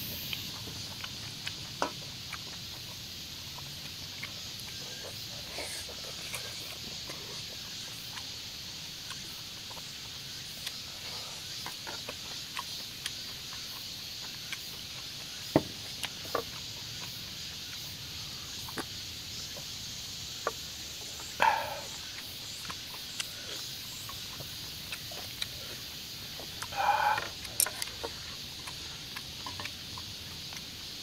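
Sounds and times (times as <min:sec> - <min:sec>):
steady high hiss: 0:00.0 - 0:31.0
chewing: 0:00.2 - 0:31.0.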